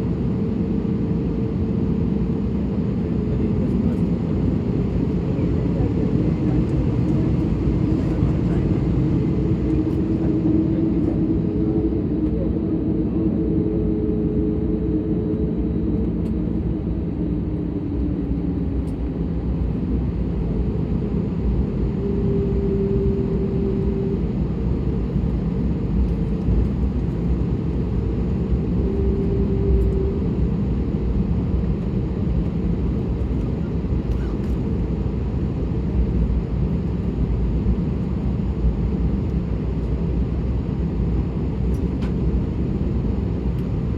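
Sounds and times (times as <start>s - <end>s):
jet engines in cabin: 0.0s - 43.9s.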